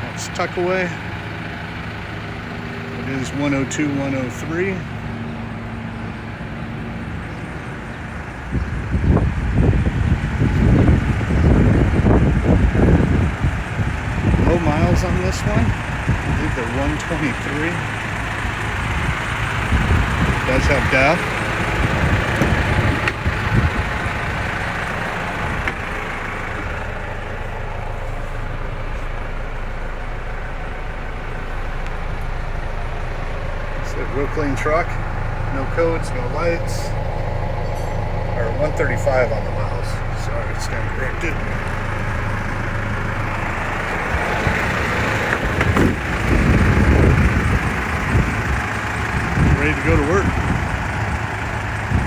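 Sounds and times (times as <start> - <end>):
diesel truck idling: 0.0 - 52.0.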